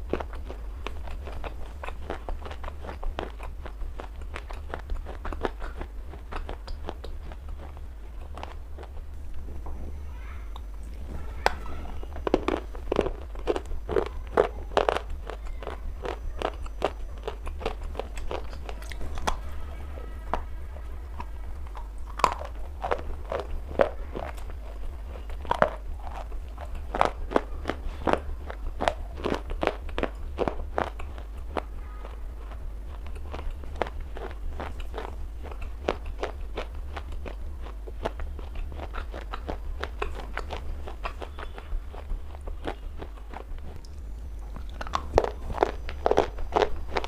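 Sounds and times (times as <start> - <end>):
stone being chewed and crunched: 0.0 - 9.0, 11.4 - 19.4, 21.1 - 32.2, 32.9 - 47.0
steady low hum: 0.0 - 47.0.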